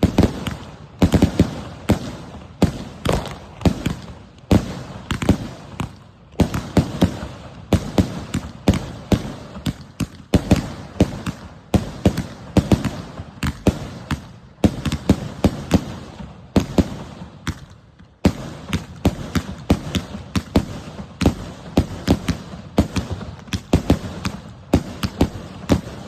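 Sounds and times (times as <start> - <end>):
firework cake bangs: 0.0 - 26.0.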